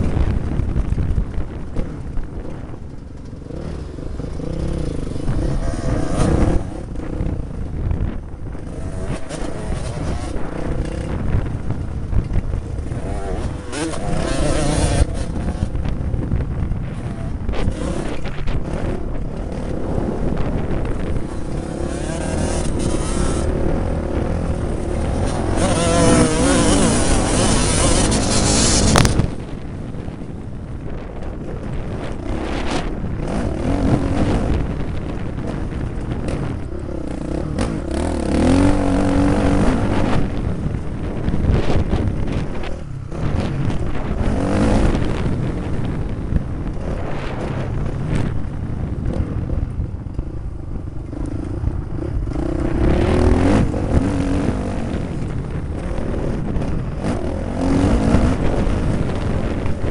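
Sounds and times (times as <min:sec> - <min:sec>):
motocross bike engine revving: 0:00.0 - 0:30.1, 0:31.7 - 0:48.3, 0:50.9 - 0:59.9.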